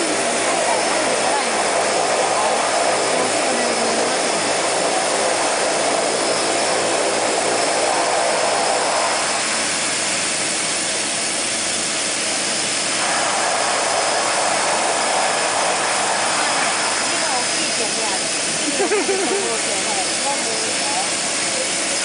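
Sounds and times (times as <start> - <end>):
propeller engine running: 0.0 - 22.0.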